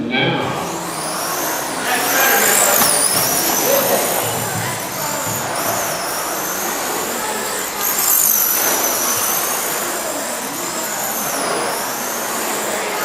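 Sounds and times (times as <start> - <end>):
rc truck motors whining: 0.0 - 13.0.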